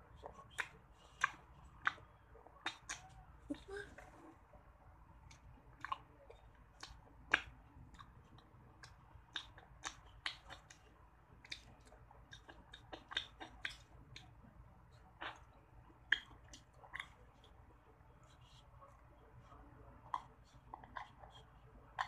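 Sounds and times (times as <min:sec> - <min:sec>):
wet chewing and lip smacks: 0:00.0 - 0:22.0.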